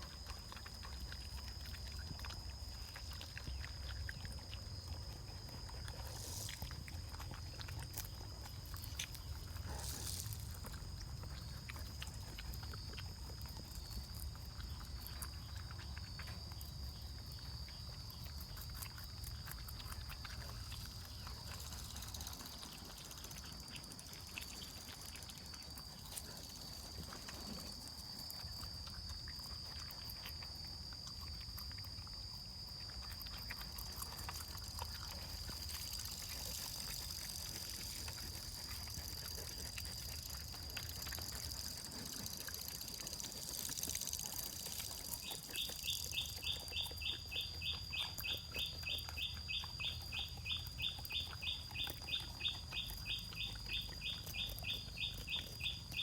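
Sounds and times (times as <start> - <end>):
faint chewing clicks: 0.0 - 56.0.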